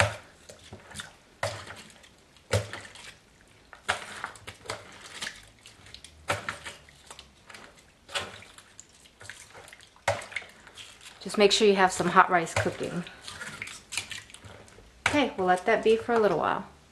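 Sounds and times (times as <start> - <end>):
wet meat and liquid sloshing: 0.0 - 16.4.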